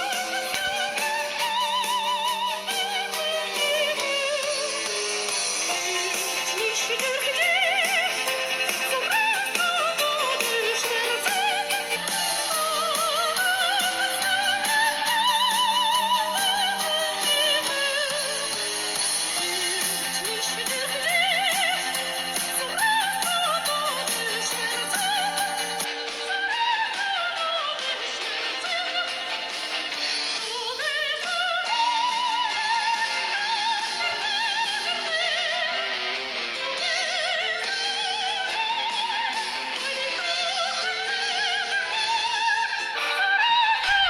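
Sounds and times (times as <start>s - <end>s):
song with vibrato singer on phone speaker: 0.0s - 44.0s.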